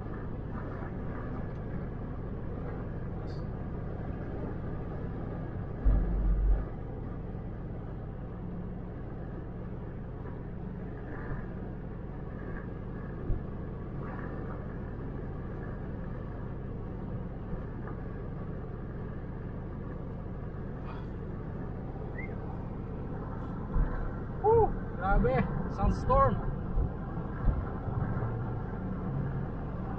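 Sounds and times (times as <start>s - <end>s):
car cabin road and engine noise: 0.0s - 29.9s.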